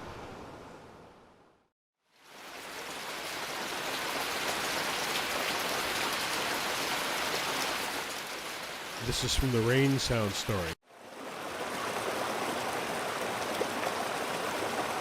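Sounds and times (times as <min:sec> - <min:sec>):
recorded rainfall hiss: 0:02.0 - 0:15.0.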